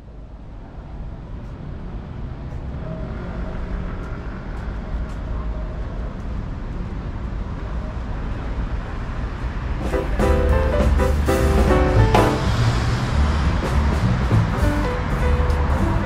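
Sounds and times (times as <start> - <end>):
vehicle engine rumble: 0.1 - 16.0.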